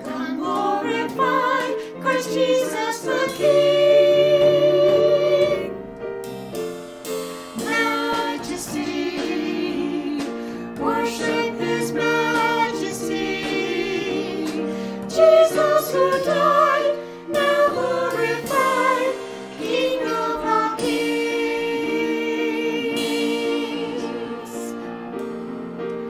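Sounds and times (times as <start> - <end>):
group singing in parts: 0.0 - 5.8, 7.6 - 26.0
piano accompaniment: 0.0 - 26.0.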